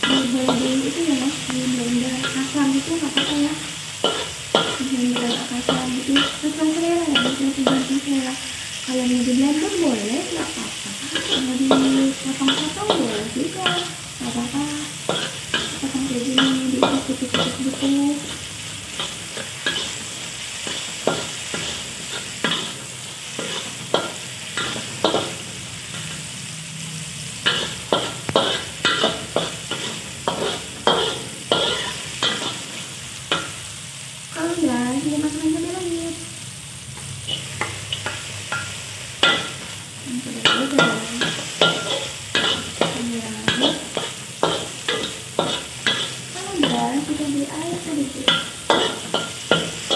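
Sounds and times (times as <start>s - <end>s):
metal spatula scraping a wok: 0.0s - 34.2s, 37.0s - 49.9s
vegetables sizzling in hot oil: 0.0s - 49.9s.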